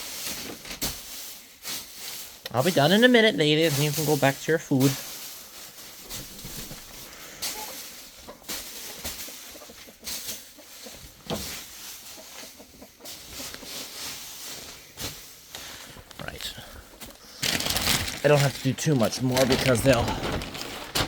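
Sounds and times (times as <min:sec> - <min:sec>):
wood shavings rustling and scraping: 0:00.0 - 0:21.0.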